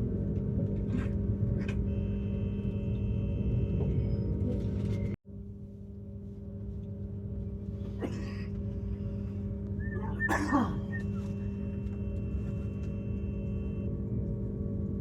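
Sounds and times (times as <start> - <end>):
train carriage equipment hum: 0.0 - 15.0.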